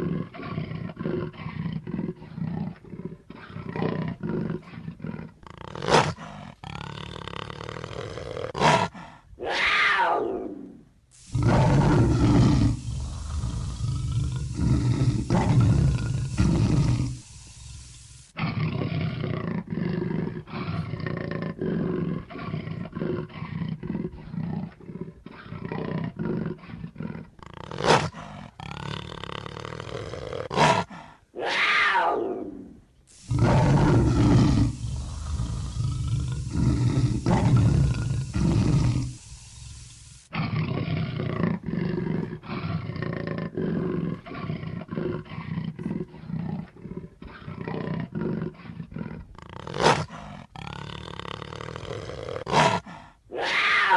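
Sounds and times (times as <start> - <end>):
big cat roaring: 0.0 - 53.9.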